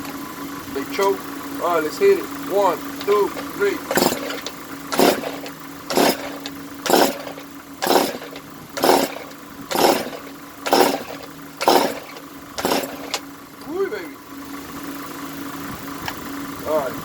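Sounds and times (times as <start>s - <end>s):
recoil starter pulls: 0.0s - 13.9s.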